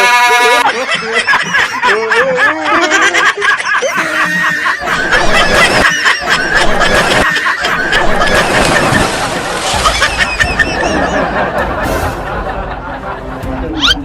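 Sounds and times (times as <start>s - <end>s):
snickering and chuckling: 0.8s - 14.0s.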